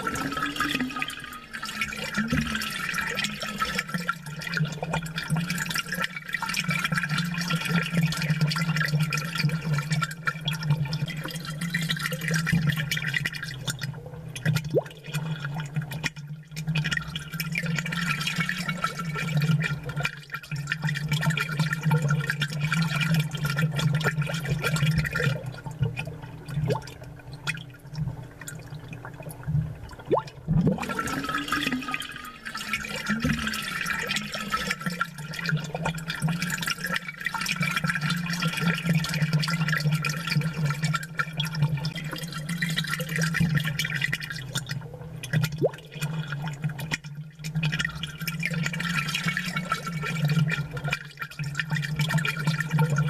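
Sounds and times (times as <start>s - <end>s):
aquarium bubbling: 0.0s - 53.0s.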